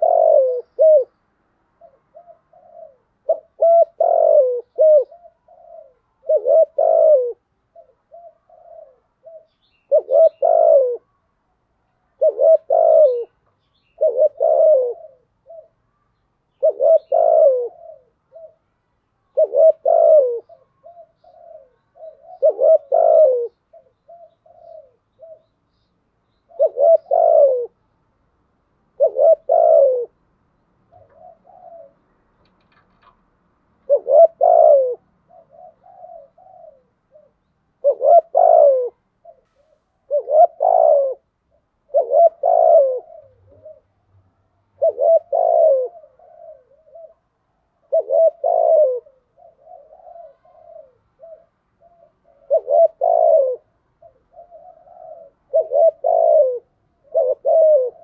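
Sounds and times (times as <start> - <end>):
dove cooing: 0.0 - 25.6, 26.4 - 27.8, 28.8 - 30.2, 30.8 - 33.2, 33.8 - 58.0.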